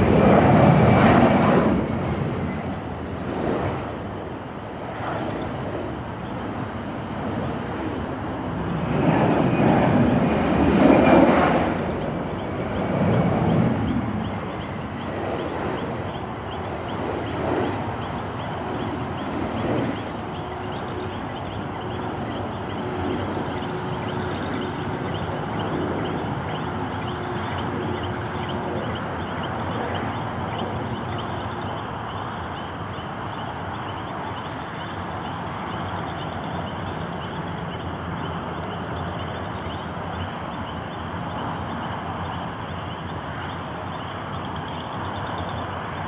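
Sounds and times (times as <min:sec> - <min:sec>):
aircraft engine rumble: 0:00.0 - 0:46.0.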